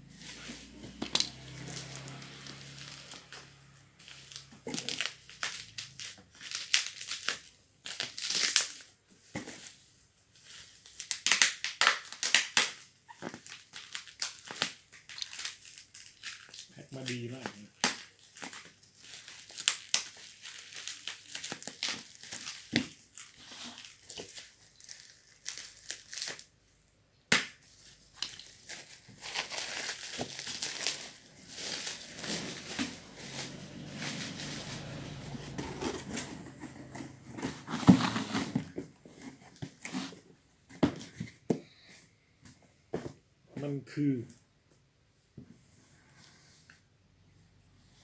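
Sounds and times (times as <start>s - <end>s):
bubble wrap crinkling: 0.1s - 26.6s, 27.5s - 40.3s.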